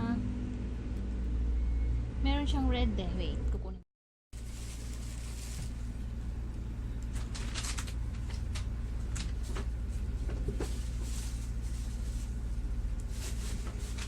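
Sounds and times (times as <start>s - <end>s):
steady low hum: 0.0s - 3.8s, 4.4s - 14.0s.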